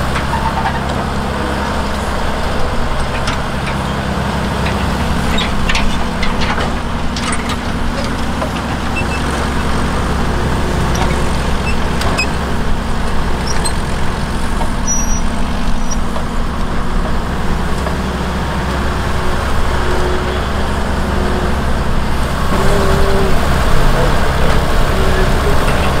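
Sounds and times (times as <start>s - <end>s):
dragline engine running: 0.0s - 26.0s.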